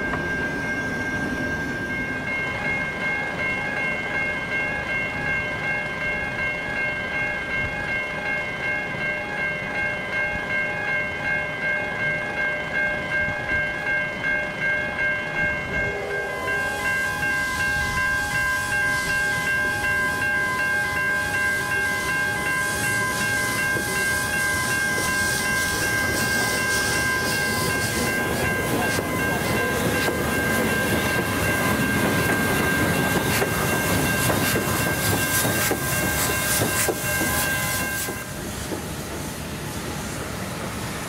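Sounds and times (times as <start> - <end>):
high ringing tone: 0.0 - 38.4
train rumbling past: 0.0 - 41.0.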